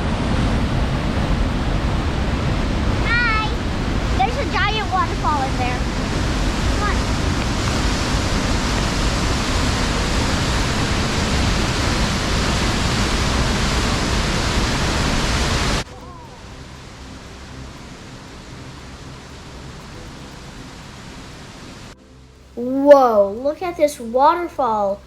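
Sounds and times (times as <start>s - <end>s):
waterfall roaring: 0.0s - 22.0s
steady hush: 1.0s - 25.0s.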